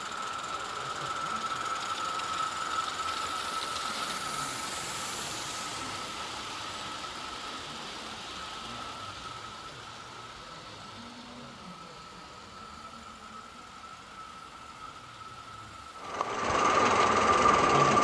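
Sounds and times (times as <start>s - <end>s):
steam locomotive hissing: 0.0s - 18.0s.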